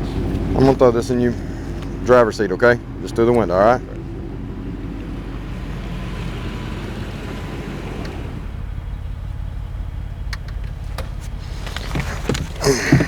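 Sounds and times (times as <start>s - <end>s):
roadside vehicle rumble: 0.0s - 13.0s.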